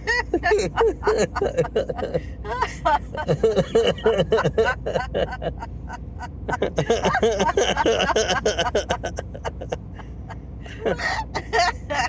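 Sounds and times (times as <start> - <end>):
car driving on highway: 0.0 - 12.0
person laughing: 0.0 - 12.0.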